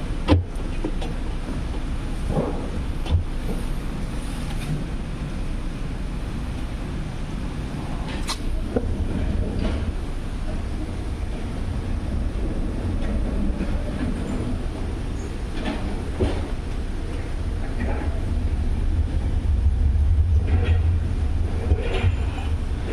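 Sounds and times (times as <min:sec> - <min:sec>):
washing machine rumbling: 0:00.0 - 0:22.9.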